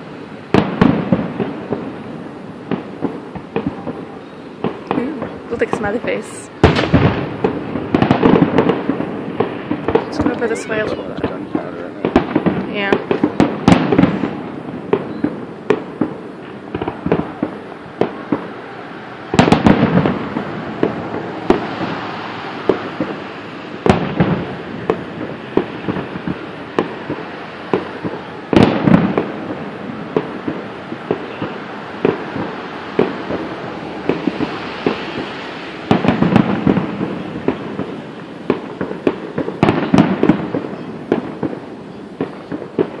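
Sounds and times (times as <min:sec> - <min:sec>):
fireworks bursting: 0:00.0 - 0:43.0
fireworks crackling: 0:00.0 - 0:43.0.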